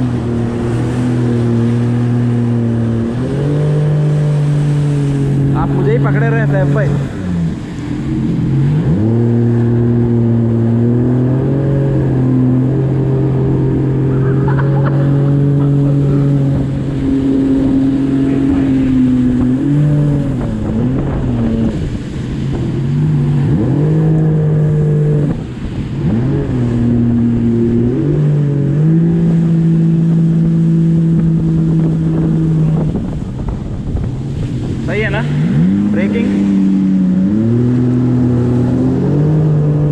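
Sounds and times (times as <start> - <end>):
jet ski engine running: 0.0 - 39.9
water rushing: 0.0 - 39.9
wind: 0.0 - 39.9.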